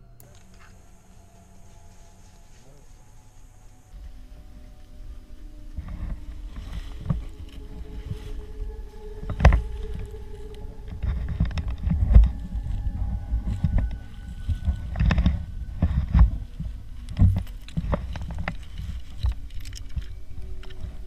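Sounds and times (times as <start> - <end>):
rumbling and rustling on microphone: 0.0 - 21.0.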